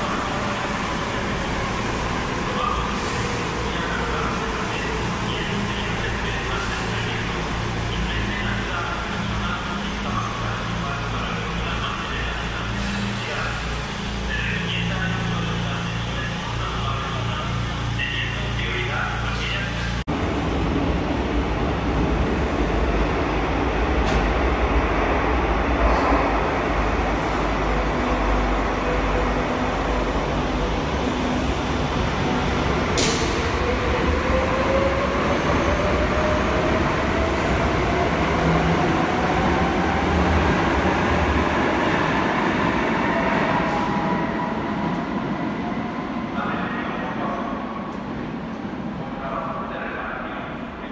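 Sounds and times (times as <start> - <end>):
train rumbling: 0.0 - 50.9.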